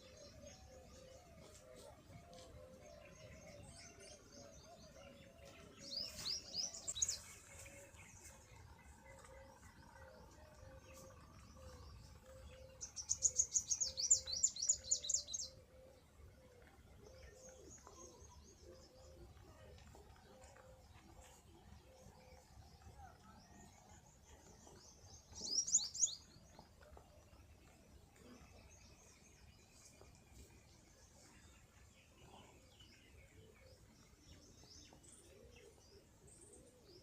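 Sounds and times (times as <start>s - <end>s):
small birds chirping trills: 0.0s - 37.0s.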